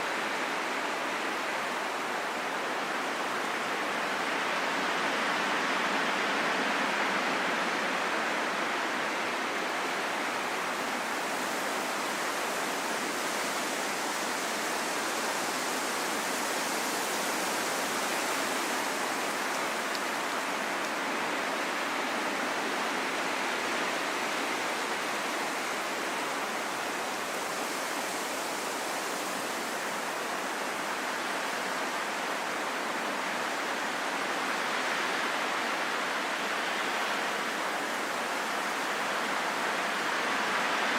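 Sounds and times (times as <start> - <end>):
rain falling in a forest: 0.0 - 40.9.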